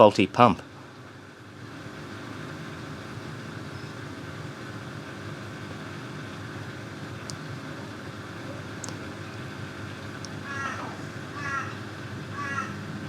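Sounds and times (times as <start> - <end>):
washing machine drain pump humming: 0.0 - 13.0.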